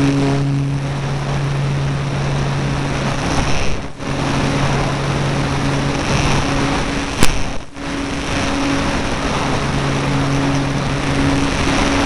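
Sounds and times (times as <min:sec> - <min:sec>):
electric model plane motor hum: 0:00.0 - 0:12.0
wind rush on microphone: 0:00.0 - 0:12.0.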